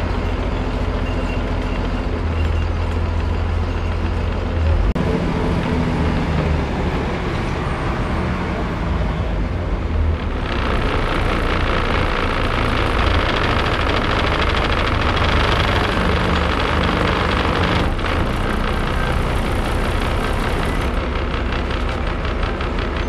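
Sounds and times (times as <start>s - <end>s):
bus engine rumble: 0.0s - 23.0s
road and wind noise: 0.0s - 23.0s.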